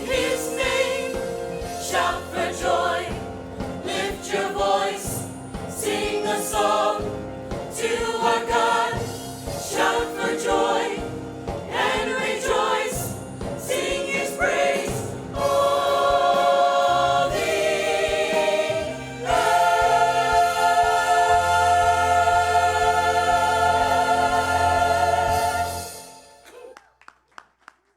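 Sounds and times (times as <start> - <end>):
voices singing gospel song: 0.0 - 26.3
band playing: 0.0 - 26.4.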